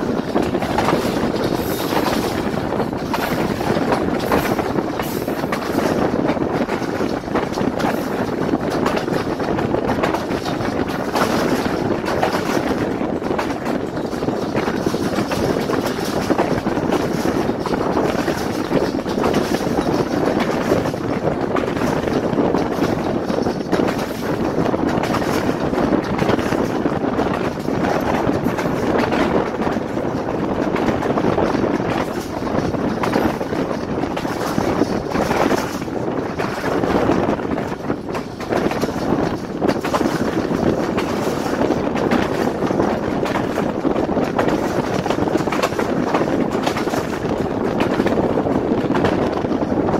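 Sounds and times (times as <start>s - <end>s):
train wheels on rails: 0.0s - 49.9s
wind on microphone: 0.0s - 49.9s.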